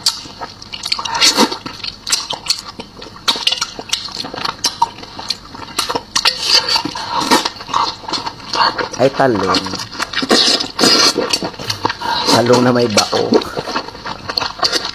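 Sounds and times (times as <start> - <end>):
man chewing and sucking: 0.0 - 14.9.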